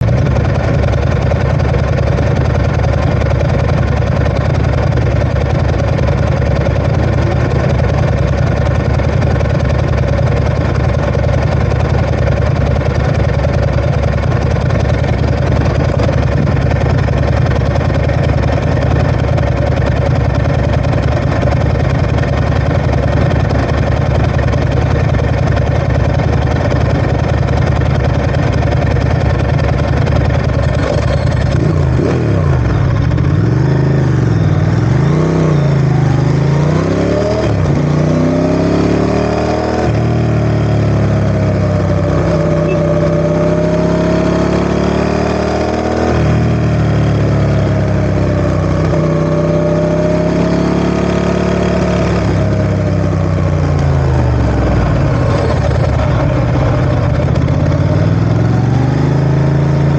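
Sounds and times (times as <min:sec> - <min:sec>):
motorcycle engine idling: 0:00.0 - 0:39.1, 0:39.9 - 0:59.9.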